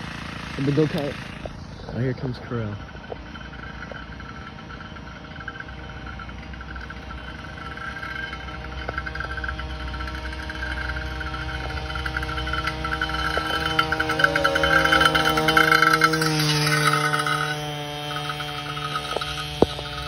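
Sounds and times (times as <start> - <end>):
small two-stroke scooter engine: 0.0 - 20.0.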